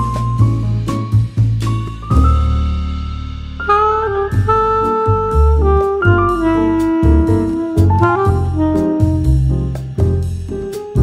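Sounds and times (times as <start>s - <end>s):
bass and drums: 0.0s - 11.0s
jazz saxophone melody: 0.0s - 11.0s.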